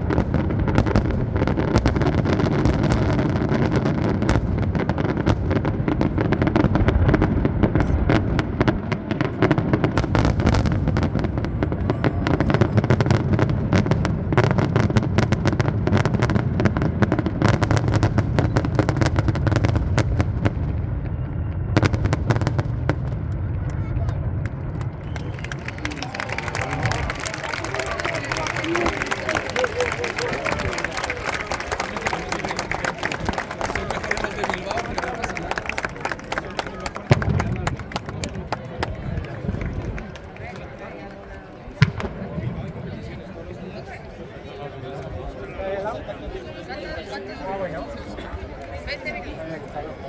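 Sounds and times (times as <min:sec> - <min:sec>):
deep rumble of fireworks booms: 0:00.0 - 0:36.3, 0:36.9 - 0:40.7, 0:41.6 - 0:43.5
fireworks bangs and crackles: 0:00.0 - 0:45.5.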